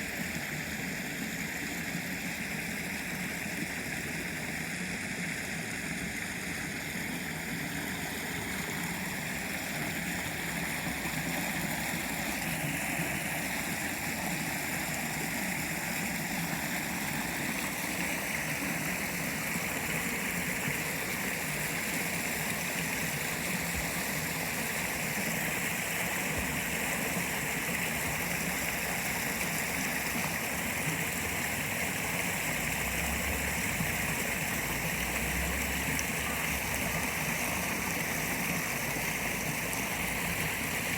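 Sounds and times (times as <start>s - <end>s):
waterfall splashing into pond: 0.0s - 40.9s.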